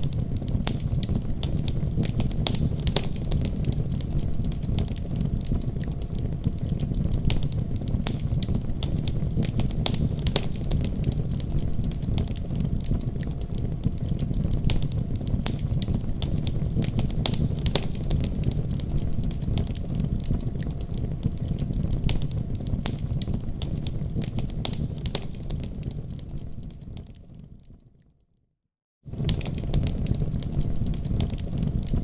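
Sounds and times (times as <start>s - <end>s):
fire rumbling in fireplace: 0.0s - 28.0s, 29.0s - 32.0s
fire crackling and popping: 0.0s - 28.1s, 29.1s - 32.0s.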